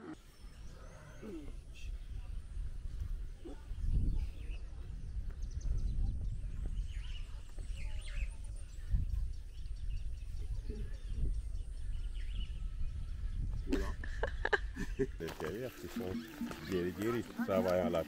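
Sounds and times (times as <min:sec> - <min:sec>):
birds chirping: 0:00.0 - 0:18.0
wind buffeting microphone: 0:00.2 - 0:15.4.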